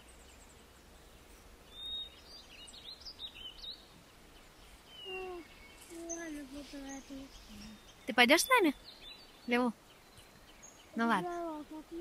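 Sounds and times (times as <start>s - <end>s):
songbirds chirping and whistling: 0.0s - 12.0s.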